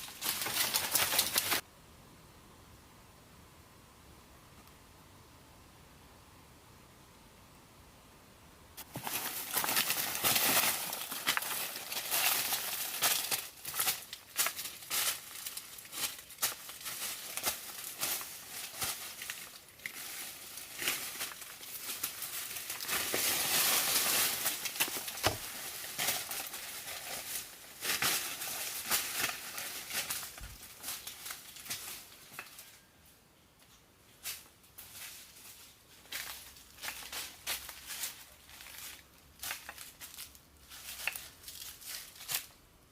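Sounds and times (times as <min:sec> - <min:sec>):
rustling and crackling with snaps: 0:00.0 - 0:01.6, 0:08.8 - 0:32.9, 0:33.6 - 0:42.6.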